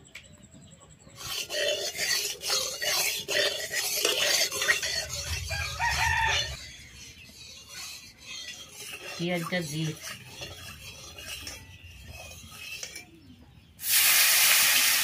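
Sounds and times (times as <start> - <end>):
metal spatula scraping pan: 1.2 - 13.6.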